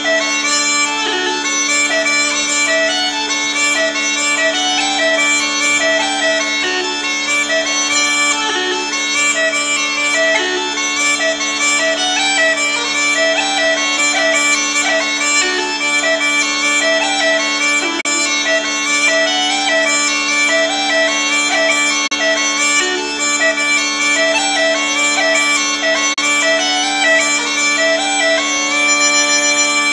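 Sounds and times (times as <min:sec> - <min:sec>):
bagpipe drones: 0:00.0 - 0:29.9
pipe chanter melody: 0:00.0 - 0:29.9.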